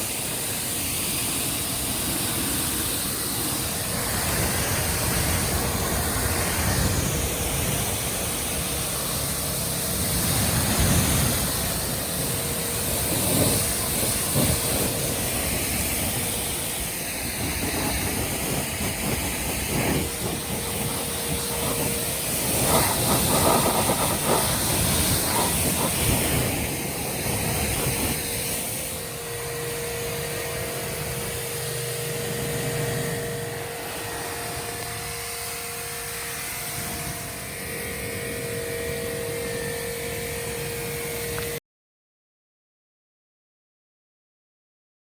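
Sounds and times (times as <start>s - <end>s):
water splashing on surface: 0.0s - 37.9s
pressure washer water jet hiss: 0.0s - 41.6s
pump motor whine: 0.0s - 41.6s.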